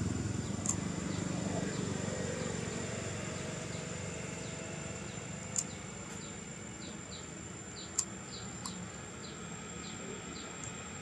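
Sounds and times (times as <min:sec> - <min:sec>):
high-pitched whine: 0:00.0 - 0:11.0
low background hum: 0:00.0 - 0:11.0.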